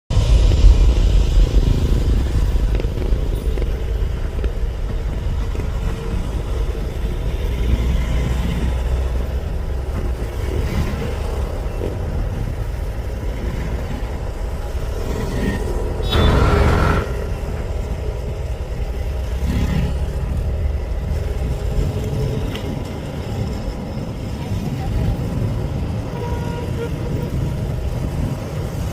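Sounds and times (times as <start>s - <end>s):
motor vehicle rumble: 0.1s - 28.9s.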